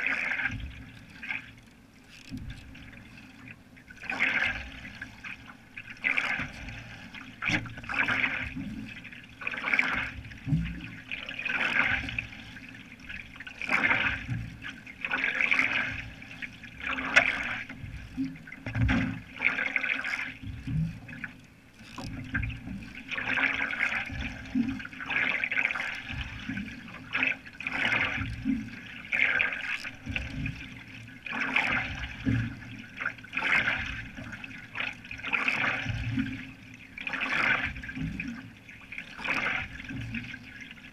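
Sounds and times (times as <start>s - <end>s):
canoe paddle splashing water: 0.0s - 40.9s.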